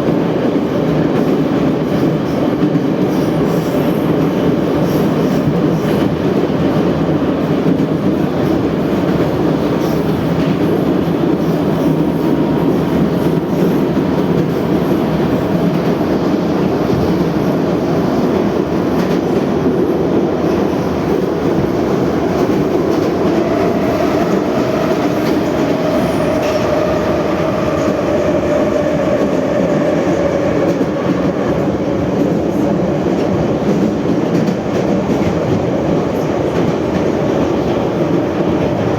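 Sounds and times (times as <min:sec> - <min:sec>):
subway car wheels rumbling on rail: 0:00.0 - 0:38.9.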